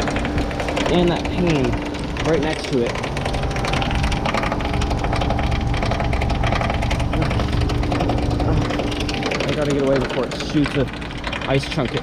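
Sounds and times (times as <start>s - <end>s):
heat pump humming: 0.0s - 12.0s
rapid rattling clatter: 0.0s - 12.0s.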